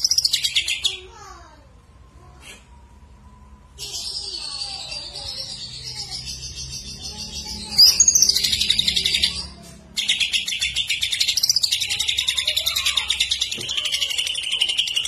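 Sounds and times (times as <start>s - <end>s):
bird singing a rapid trill: 0.0s - 1.2s, 3.8s - 15.0s.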